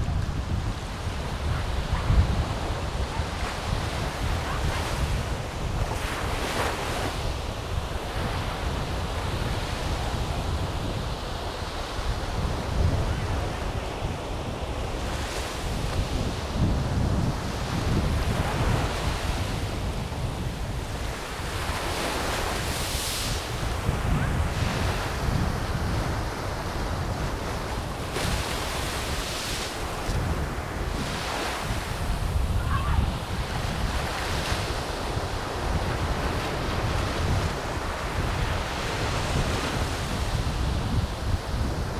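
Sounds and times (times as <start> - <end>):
surf washing on a beach: 0.0 - 41.9
wind buffeting the microphone: 0.0 - 41.9.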